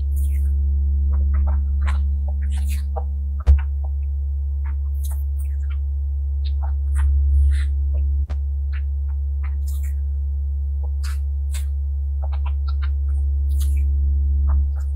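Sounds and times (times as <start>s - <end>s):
low electronic drone: 0.0s - 14.9s.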